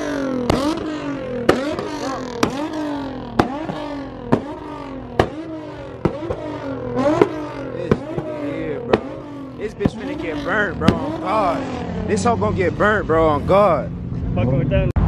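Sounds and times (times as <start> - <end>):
car engine revving with cracks: 0.0 - 15.0.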